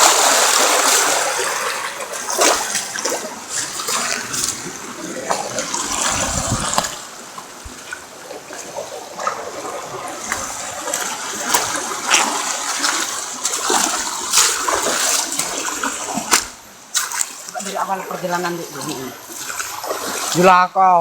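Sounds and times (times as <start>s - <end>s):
water rushing and splashing: 0.0s - 21.0s.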